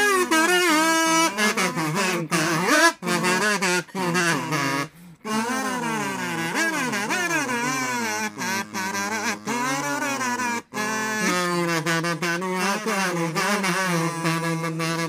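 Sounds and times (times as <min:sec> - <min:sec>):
kazoo bass line: 0:00.0 - 0:15.0
kazoos playing melody: 0:00.0 - 0:15.0.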